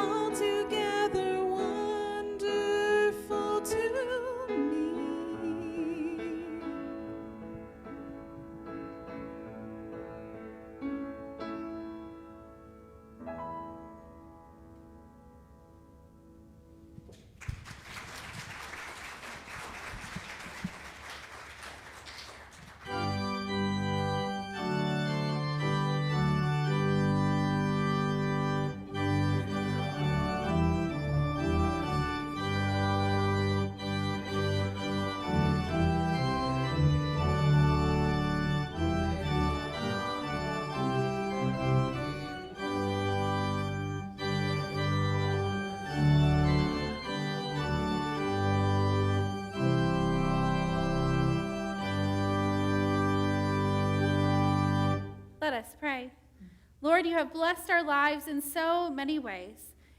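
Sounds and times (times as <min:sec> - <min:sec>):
organ playing full chords: 0:00.0 - 0:17.1, 0:21.9 - 0:55.4.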